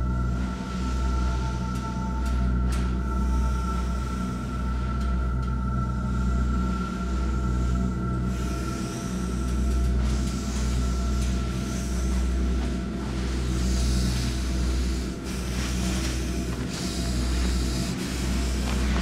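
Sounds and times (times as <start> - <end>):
low rumbling ambient drone: 0.0 - 19.0.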